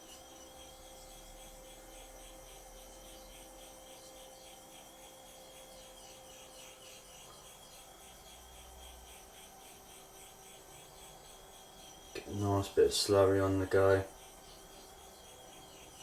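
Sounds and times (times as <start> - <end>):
rubbing on sharpening stone: 0.1 - 16.0.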